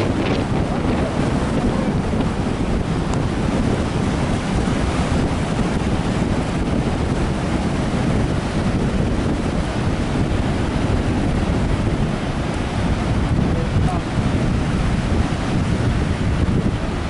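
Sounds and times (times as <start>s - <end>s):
surf breaking on shore: 0.0s - 17.0s
wind buffeting microphone: 0.0s - 17.0s.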